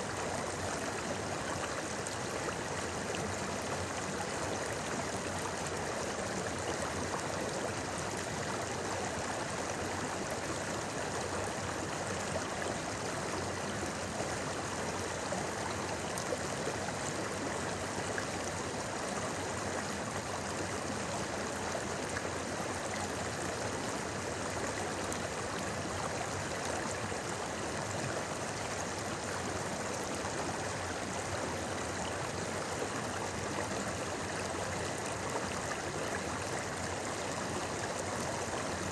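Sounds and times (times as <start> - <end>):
river babbling over stones: 0.0 - 38.9.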